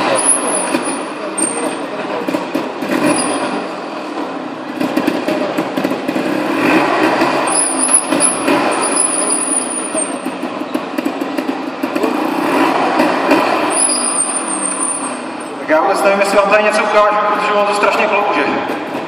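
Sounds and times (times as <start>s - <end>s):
motorcycle engine revving: 0.0s - 16.4s.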